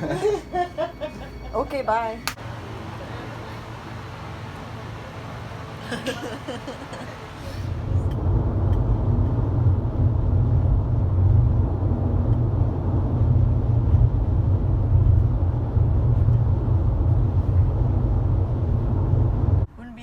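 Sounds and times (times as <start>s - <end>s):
car road and engine rumble: 2.4s - 19.7s.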